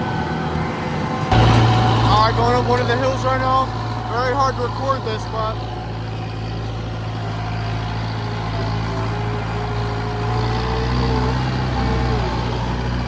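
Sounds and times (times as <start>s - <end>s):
tractor engine under load: 0.0s - 13.0s
whining tone: 0.0s - 13.0s.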